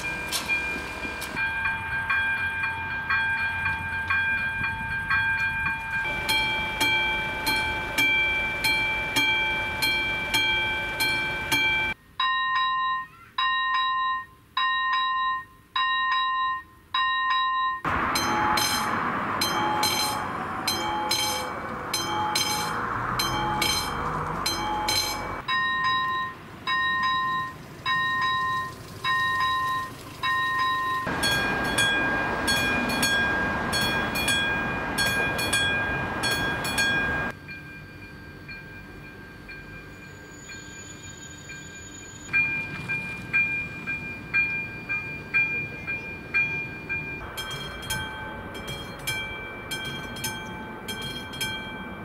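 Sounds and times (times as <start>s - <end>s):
level crossing bells dinging: 0.0s - 52.0s.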